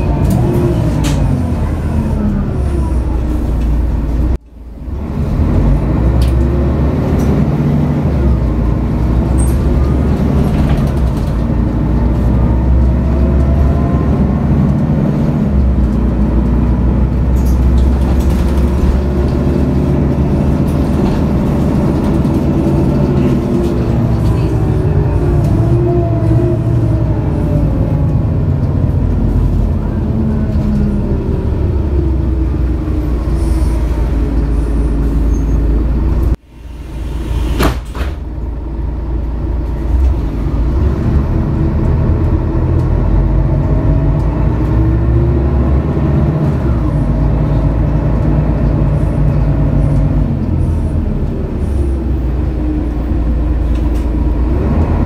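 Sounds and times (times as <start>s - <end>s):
bus engine shifting gears: 0.0s - 55.0s.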